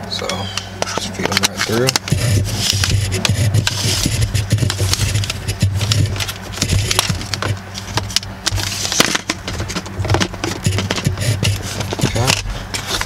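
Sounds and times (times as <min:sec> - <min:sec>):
wires scraping plastic trim: 0:00.8 - 0:13.0.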